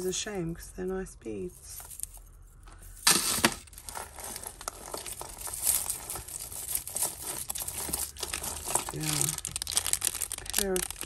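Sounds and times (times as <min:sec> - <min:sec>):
plastic bag crinkling: 0:01.6 - 0:11.0.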